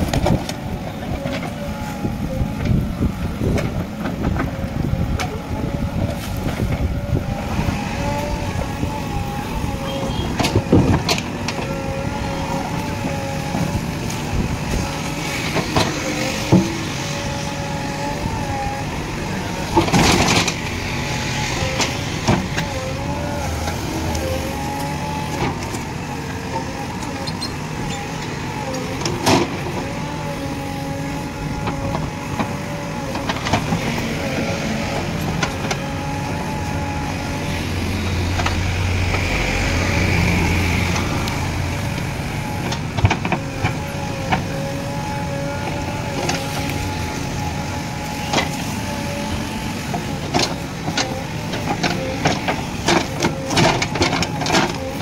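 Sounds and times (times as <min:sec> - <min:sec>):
backhoe diesel engine and hydraulics: 0:00.0 - 0:55.0.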